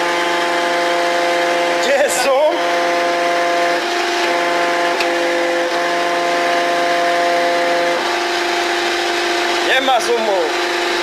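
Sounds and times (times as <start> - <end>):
machine drone with humming tones: 0.0 - 11.0.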